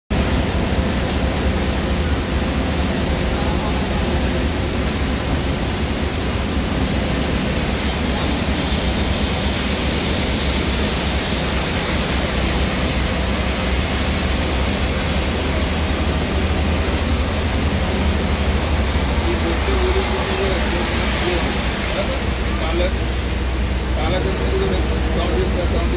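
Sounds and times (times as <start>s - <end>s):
bus engine and road rumble: 0.1s - 25.9s
rain and tyre spray rushing: 0.2s - 25.8s.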